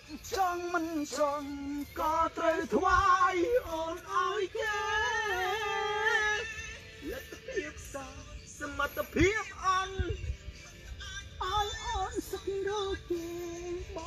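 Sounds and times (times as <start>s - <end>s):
person singing a melody: 0.0s - 14.0s.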